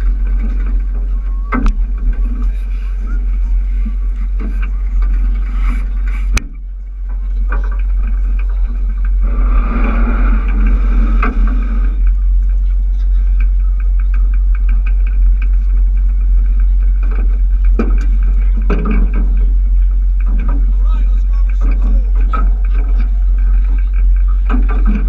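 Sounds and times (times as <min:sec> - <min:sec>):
motorboat engine rumble: 0:00.0 - 0:25.0.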